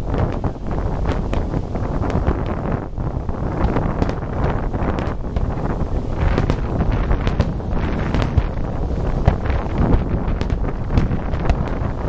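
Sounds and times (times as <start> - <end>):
firework shells bursting: 0.0 - 12.0
wind buffeting microphone: 0.0 - 12.0.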